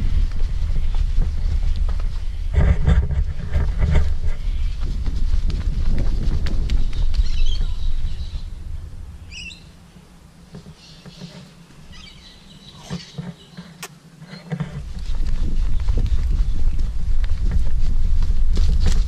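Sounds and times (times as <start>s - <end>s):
birds chirping: 0.0s - 17.2s
low rumble of wind: 0.0s - 19.0s.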